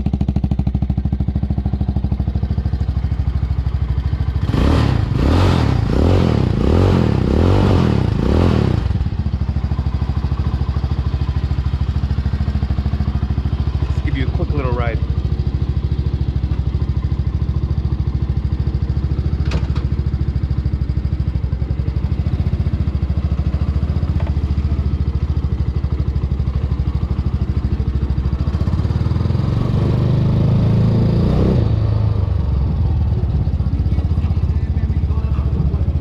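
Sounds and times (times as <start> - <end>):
motorcycle engine idling: 0.0 - 30.6, 31.6 - 36.0.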